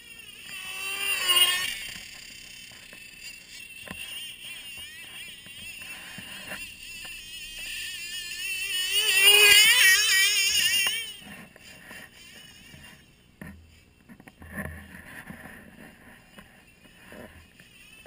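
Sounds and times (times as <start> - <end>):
model snowmobile motor whining: 0.0 - 18.0.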